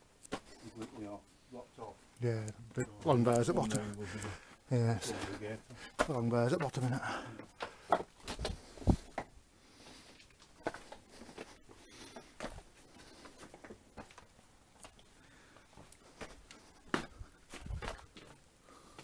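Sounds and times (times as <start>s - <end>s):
footsteps crunching over rubble: 2.2s - 19.0s.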